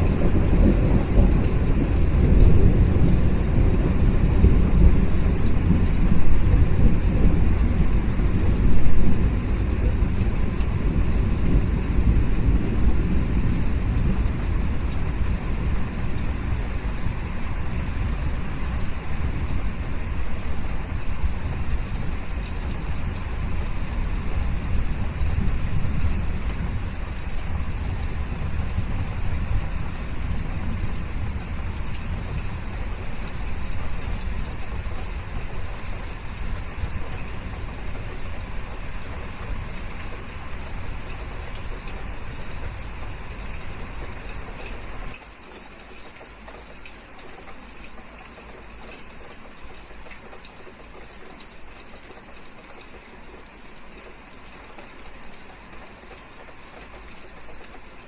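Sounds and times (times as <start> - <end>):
rain: 0.0 - 58.0.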